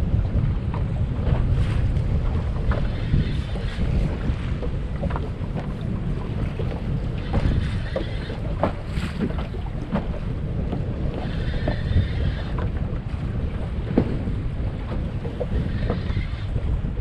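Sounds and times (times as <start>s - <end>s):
waves lapping against boat hull: 0.0s - 17.0s
wind buffeting microphone: 0.0s - 17.0s.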